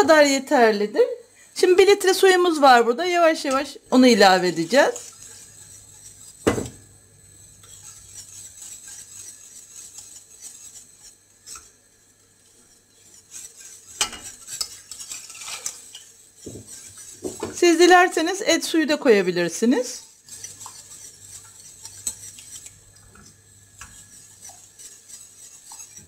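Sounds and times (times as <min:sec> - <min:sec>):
whisk stirring and scraping in pot: 0:01.6 - 0:26.0
whisk clinking against metal pot: 0:01.9 - 0:06.8, 0:07.4 - 0:26.0.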